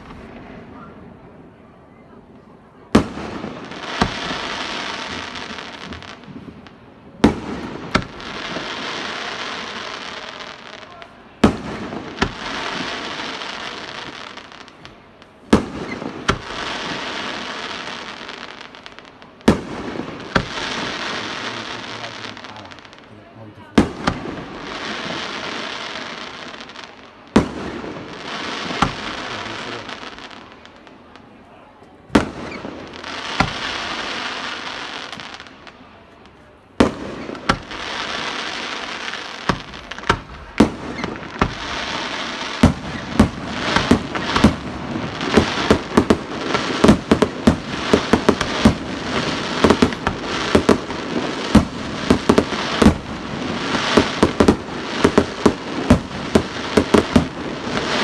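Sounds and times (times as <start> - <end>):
fireworks hissing crackle: 0.0 - 1.6, 2.3 - 58.0
fireworks bangs: 0.0 - 58.0.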